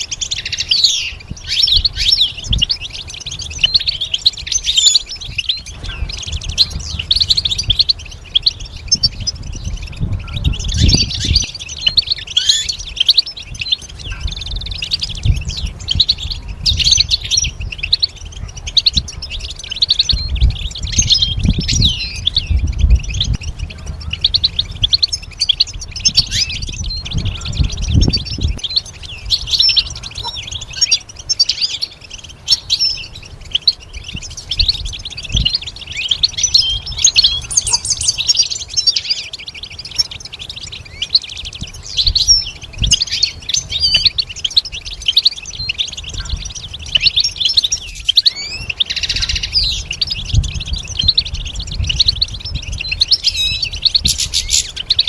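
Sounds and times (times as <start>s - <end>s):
goldfinch twittering song: 0.0s - 55.0s.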